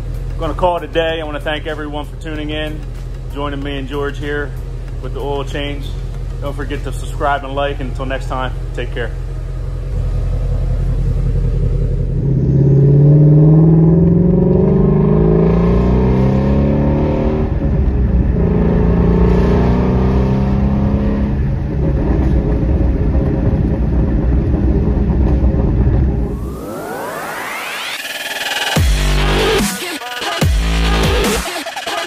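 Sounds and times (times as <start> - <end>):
car engine accelerating: 0.0 - 29.7.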